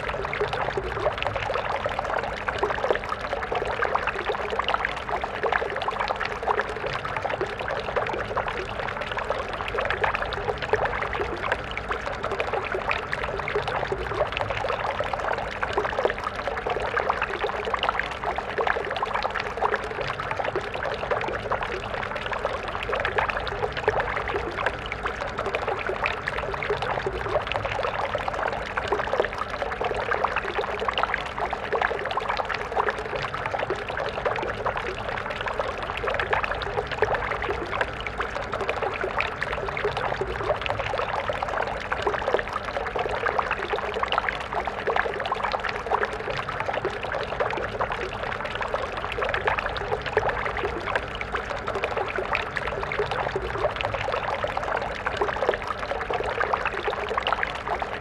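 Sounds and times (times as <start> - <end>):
stream water babbling: 0.0 - 58.0.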